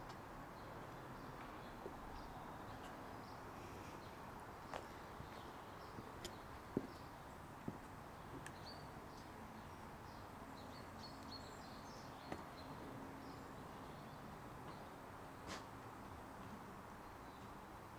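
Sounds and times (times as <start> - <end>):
faint outdoor hiss: 0.0 - 17.9
small birds chirping: 0.1 - 15.7, 16.8 - 17.9.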